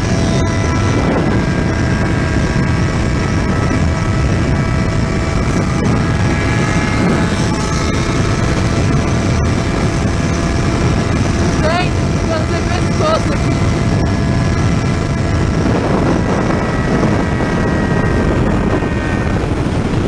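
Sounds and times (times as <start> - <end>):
motorcycle engine at high speed: 0.0 - 20.0
wind rushing on microphone: 0.0 - 20.0.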